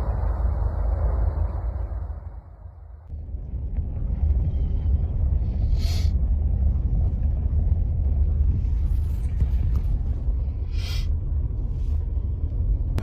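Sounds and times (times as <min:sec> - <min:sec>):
deep steady rumble: 0:00.0 - 0:13.0.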